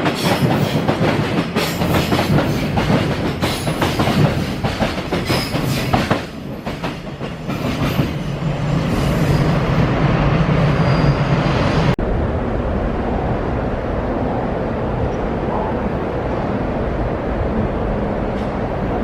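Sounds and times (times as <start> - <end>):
freight train passing: 0.0 - 19.0.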